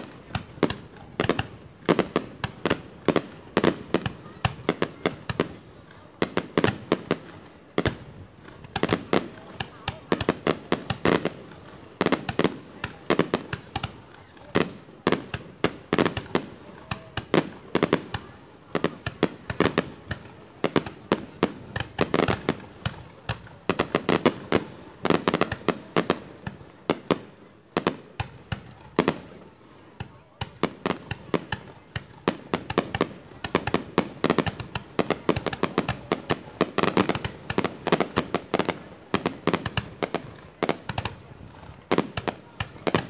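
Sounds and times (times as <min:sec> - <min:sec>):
fireworks bangs: 0:00.0 - 0:43.0.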